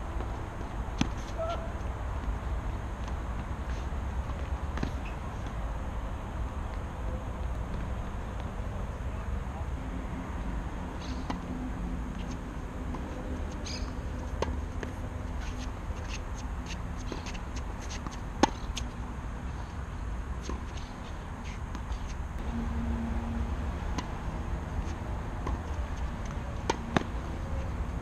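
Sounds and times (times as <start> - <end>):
outdoor background hum: 0.0 - 28.0.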